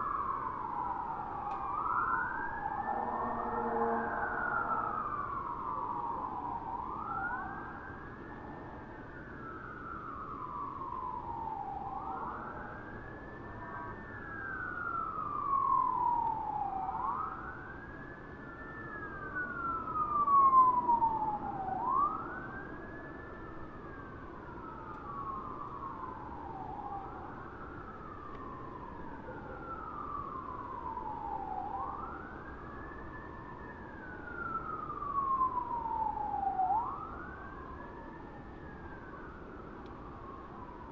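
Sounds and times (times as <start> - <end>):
distant fire truck siren wailing: 0.0 - 40.9.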